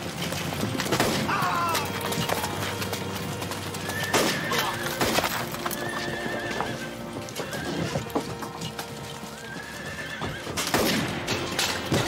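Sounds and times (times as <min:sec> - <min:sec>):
dramatic orchestral music: 0:00.0 - 0:12.0
hooves clattering: 0:00.0 - 0:12.0
horses whinnying: 0:00.1 - 0:12.0.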